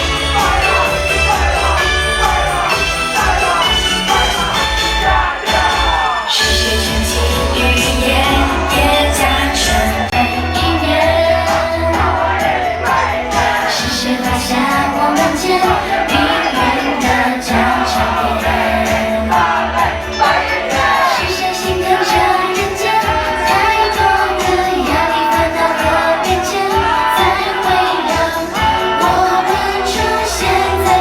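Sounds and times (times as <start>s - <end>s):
backing track with steady beat: 0.0s - 31.0s
people singing pop song: 0.0s - 31.0s.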